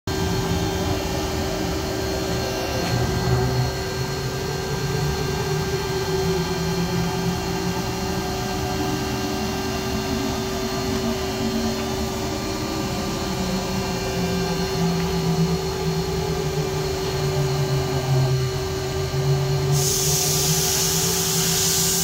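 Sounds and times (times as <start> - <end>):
machinery hum: 0.1 - 22.0.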